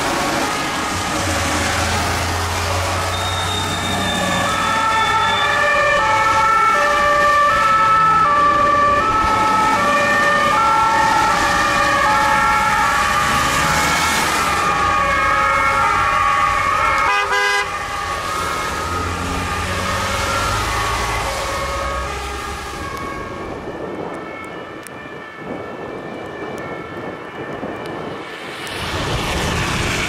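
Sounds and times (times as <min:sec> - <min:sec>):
ambulance two-tone siren: 0:00.0 - 0:30.0.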